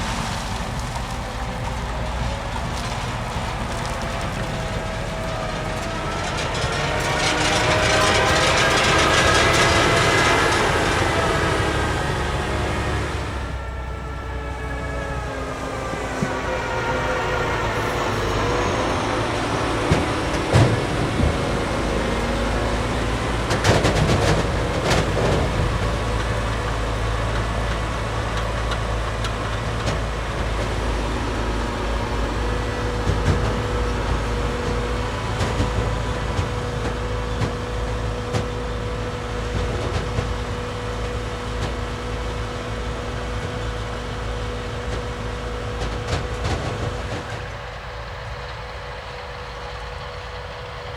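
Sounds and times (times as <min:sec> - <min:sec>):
harvester diesel engine drone: 0:00.0 - 0:50.9
machinery whine: 0:00.0 - 0:50.9.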